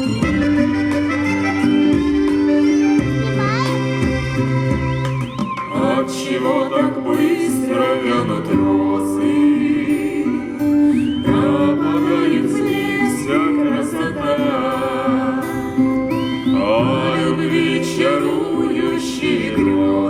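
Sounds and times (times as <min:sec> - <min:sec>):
instrumental accompaniment: 0:00.0 - 0:20.0
vocal ensemble singing: 0:00.0 - 0:20.0.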